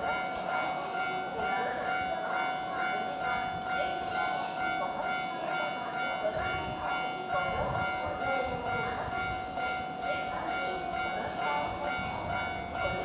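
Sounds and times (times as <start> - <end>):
low train rumble: 0.0 - 13.0
steady ringing tone: 0.0 - 13.0.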